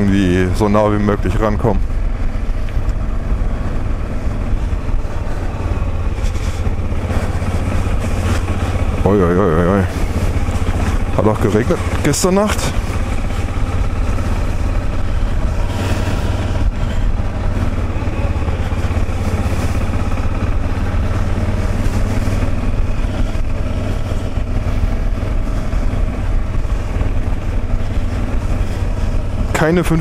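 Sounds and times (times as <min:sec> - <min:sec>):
motorcycle engine running: 0:00.0 - 0:30.0
rush of noise: 0:00.0 - 0:30.0.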